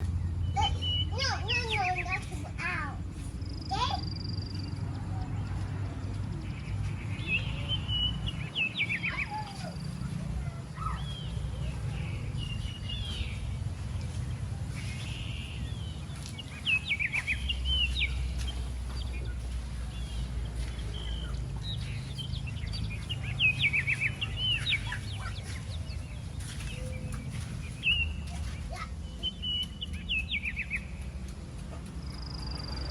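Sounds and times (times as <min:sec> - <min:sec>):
small birds chirping: 0:00.0 - 0:32.9
steady low rumble: 0:00.0 - 0:32.9.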